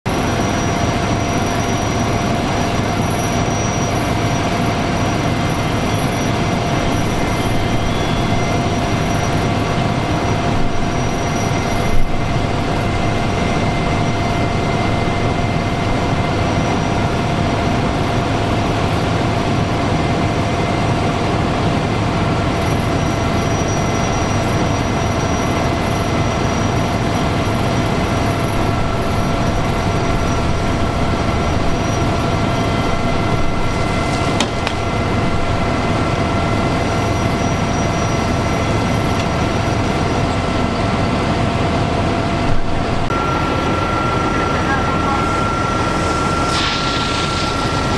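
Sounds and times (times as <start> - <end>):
fire pump engine droning: 0.0 - 47.9
whining tones: 0.1 - 21.6, 22.3 - 47.9.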